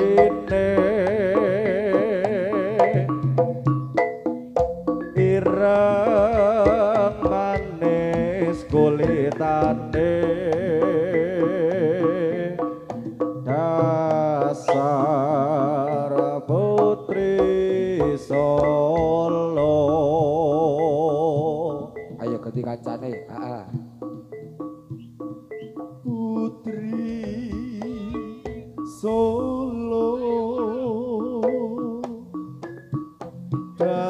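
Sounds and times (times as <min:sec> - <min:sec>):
drum strokes: 0:00.0 - 0:34.0
high lead melody with vibrato: 0:00.0 - 0:34.0
metallophones: 0:00.0 - 0:34.0.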